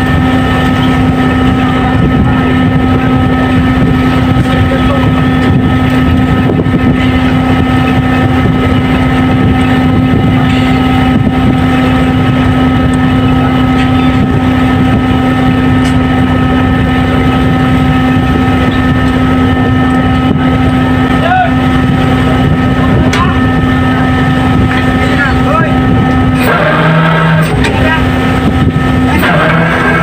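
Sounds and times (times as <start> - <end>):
boat engine droning: 0.0 - 30.0
constant hum: 0.0 - 30.0.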